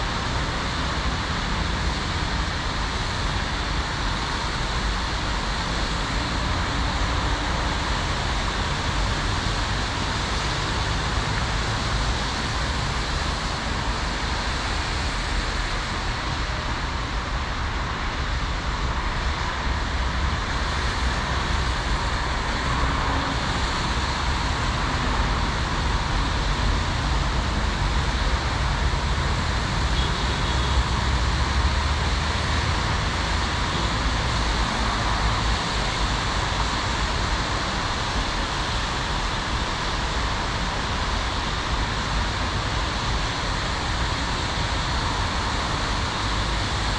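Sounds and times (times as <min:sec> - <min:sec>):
road traffic noise: 0:00.0 - 0:46.9.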